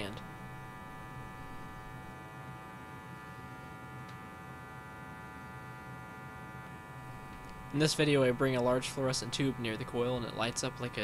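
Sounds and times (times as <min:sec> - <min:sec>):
tesla coil buzzing: 0:00.0 - 0:11.0.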